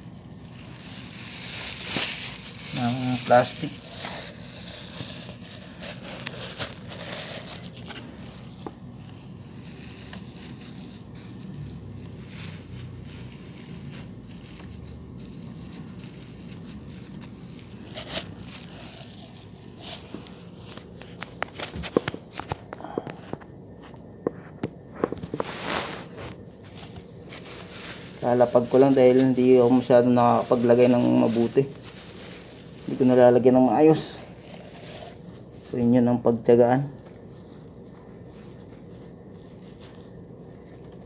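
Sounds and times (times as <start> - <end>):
plastic sheet crinkling and tearing: 0.0 - 41.0.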